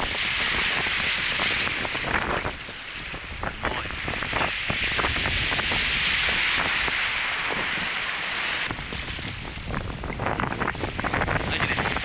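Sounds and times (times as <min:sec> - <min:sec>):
sea waves washing over reef: 0:00.0 - 0:12.0
wind buffeting microphone: 0:00.0 - 0:12.0.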